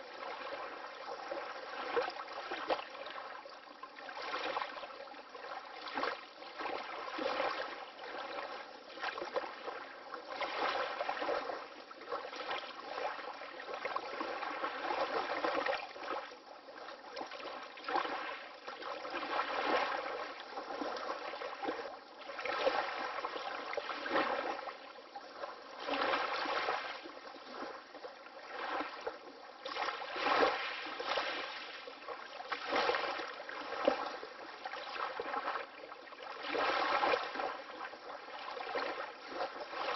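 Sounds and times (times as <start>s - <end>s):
soft water splashes: 0.0s - 39.9s
water lapping in small waves: 0.0s - 39.9s.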